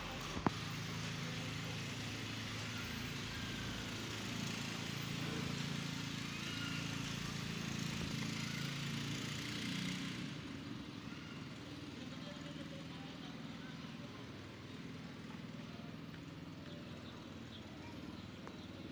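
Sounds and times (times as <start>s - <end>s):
road traffic hum: 0.0s - 18.9s.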